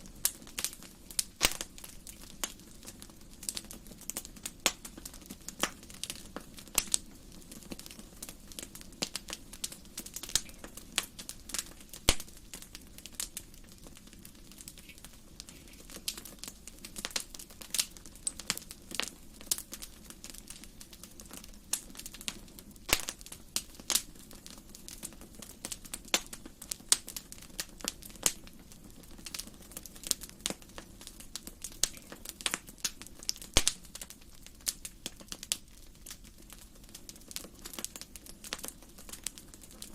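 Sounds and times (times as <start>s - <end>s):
low sound of flames: 0.0s - 39.9s
wood fire crackling: 0.0s - 39.9s.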